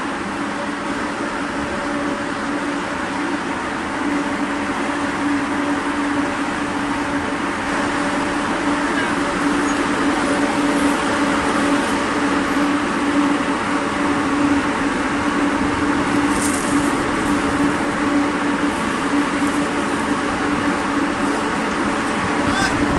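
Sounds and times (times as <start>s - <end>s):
dryer machine humming: 0.0s - 22.9s.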